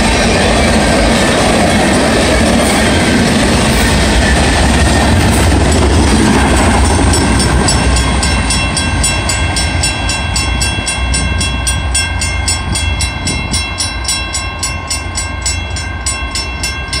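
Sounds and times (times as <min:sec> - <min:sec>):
freight train rumbling: 0:00.0 - 0:17.0
railroad crossing bell ringing: 0:00.0 - 0:17.0.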